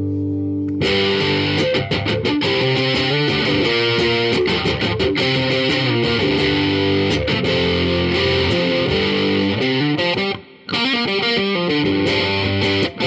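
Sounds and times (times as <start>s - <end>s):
distorted electric guitar: 0.0s - 13.0s.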